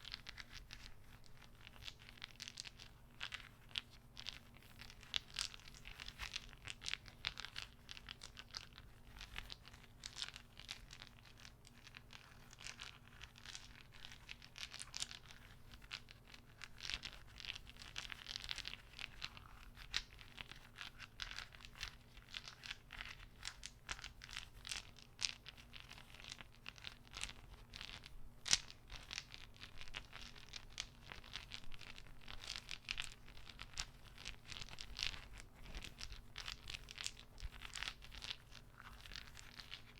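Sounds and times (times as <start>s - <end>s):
wooden beads clacking: 0.0s - 39.9s.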